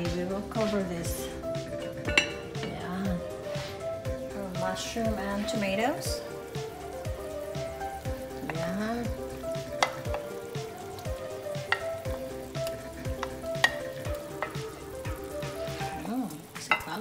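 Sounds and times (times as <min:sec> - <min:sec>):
background music with steady beat: 0:00.0 - 0:17.0
broth simmering: 0:00.0 - 0:17.0.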